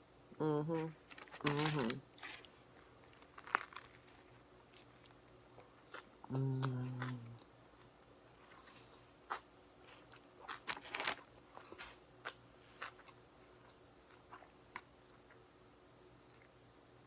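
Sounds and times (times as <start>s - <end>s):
faint steady hum: 0.0s - 17.0s
chewing crunchy sandwich: 1.0s - 15.4s, 16.2s - 16.6s.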